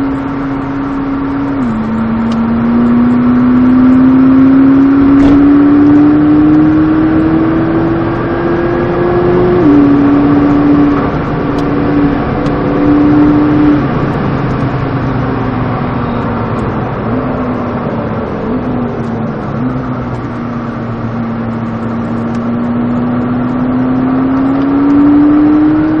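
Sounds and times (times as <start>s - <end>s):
sports car engine under load: 0.0s - 26.0s.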